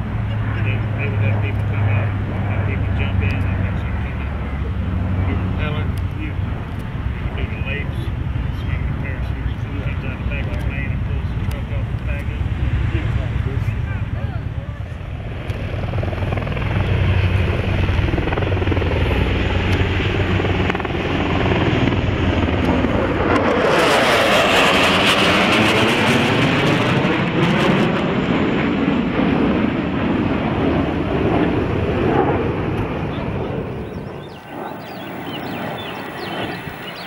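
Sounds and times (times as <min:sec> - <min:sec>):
helicopter rotor noise: 0:00.0 - 0:37.0
propeller drone: 0:00.0 - 0:37.0.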